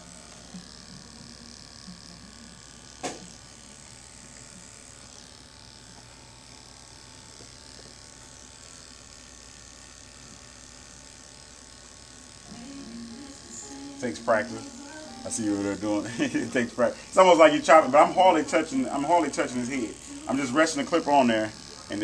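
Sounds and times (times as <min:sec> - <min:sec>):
electric hair clipper running: 0:00.0 - 0:22.0.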